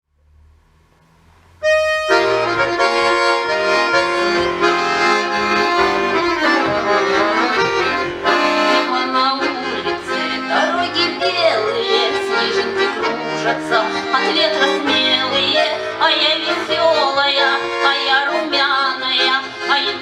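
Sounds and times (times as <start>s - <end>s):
accordion playing chords and melody: 1.6s - 20.0s.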